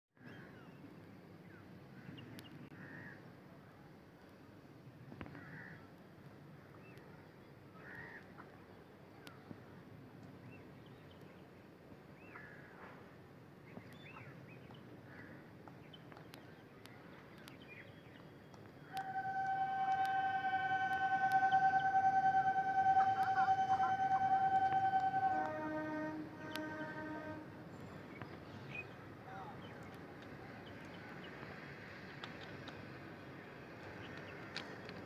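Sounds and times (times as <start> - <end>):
open-air background murmur: 0.2 - 35.0.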